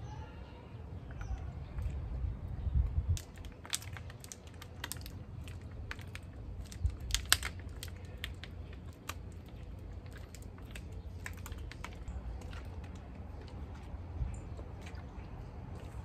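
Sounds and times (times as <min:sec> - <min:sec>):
plastic bottles crackling: 0:03.1 - 0:16.0.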